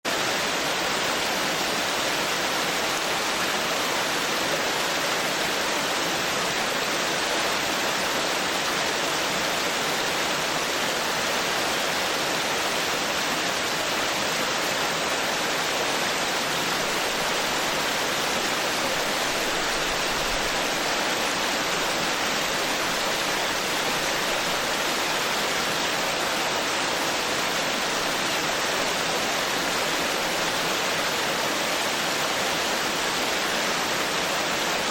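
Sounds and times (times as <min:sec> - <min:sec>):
stream babbling over rocks: 0:00.1 - 0:34.9.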